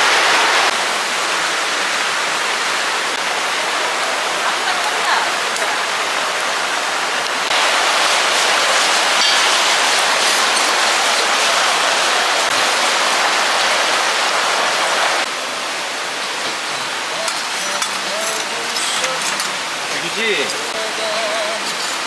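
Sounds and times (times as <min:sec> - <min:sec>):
rain: 0:00.0 - 0:22.0
stream rushing: 0:00.0 - 0:22.0.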